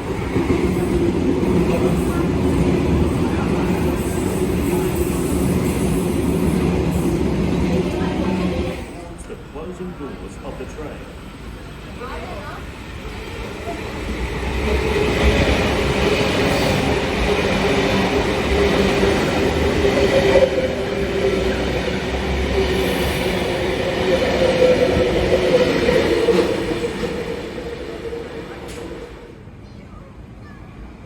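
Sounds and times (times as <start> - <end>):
train wheels rumbling on rails: 0.0 - 29.5.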